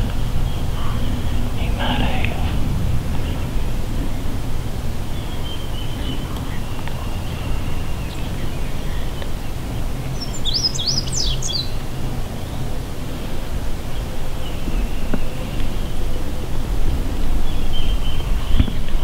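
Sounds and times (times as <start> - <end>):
low outdoor rumble: 0.0 - 19.0
songbird singing: 0.0 - 19.0.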